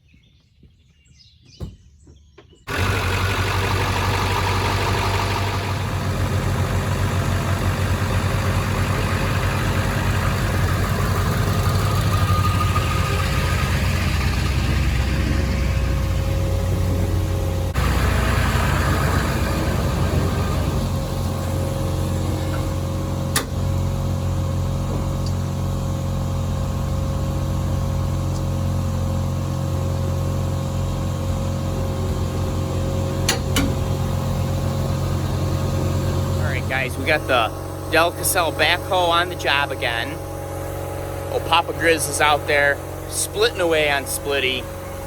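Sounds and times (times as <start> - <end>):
engine running steadily: 2.7 - 45.0
steady whine: 2.7 - 45.0.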